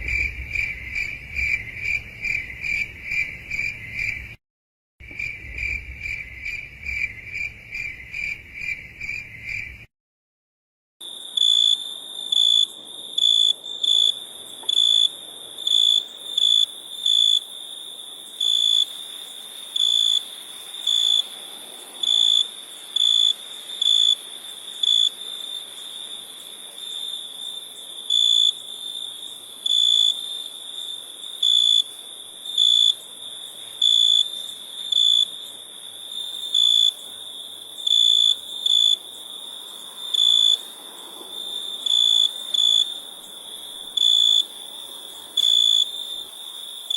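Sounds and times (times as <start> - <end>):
crickets chirping: 0.0 - 4.4, 5.0 - 9.9, 11.0 - 46.9
high-pitched cricket trilling: 5.0 - 9.9, 11.0 - 46.9.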